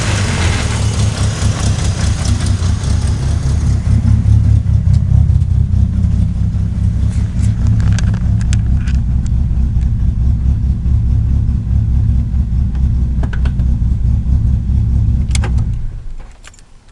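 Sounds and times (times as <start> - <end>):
transmission grinding: 0.0 - 16.8
car engine low rumble: 0.0 - 16.9.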